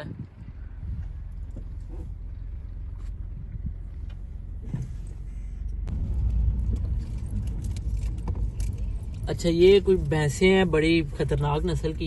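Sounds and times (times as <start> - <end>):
car rolling rumble: 0.0 - 12.0.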